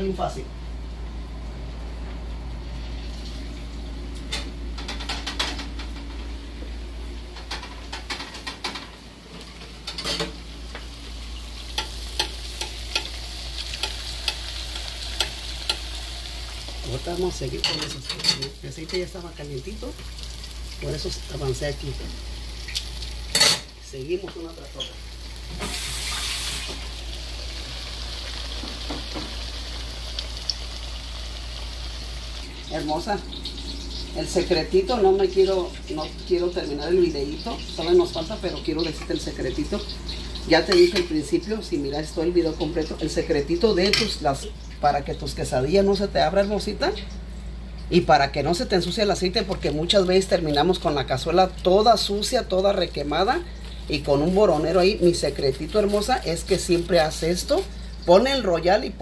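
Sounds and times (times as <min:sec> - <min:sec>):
frying in hot oil sizzling: 0:02.6 - 0:59.0.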